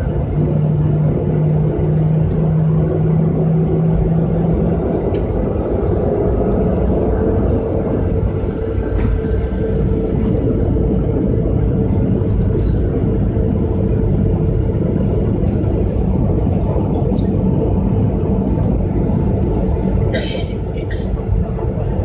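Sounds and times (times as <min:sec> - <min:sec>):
jet engines and wheels rumbling: 0:00.0 - 0:22.0
steady cabin hum: 0:00.0 - 0:22.0.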